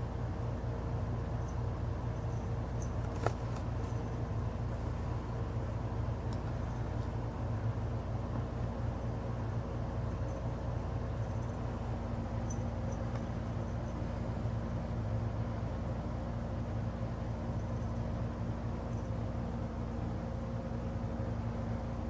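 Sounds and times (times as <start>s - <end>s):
low hum with hiss: 0.0s - 22.0s.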